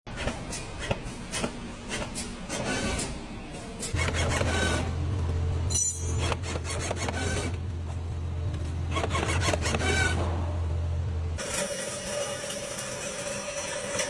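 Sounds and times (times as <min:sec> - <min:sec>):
machinery humming: 0:00.7 - 0:14.0.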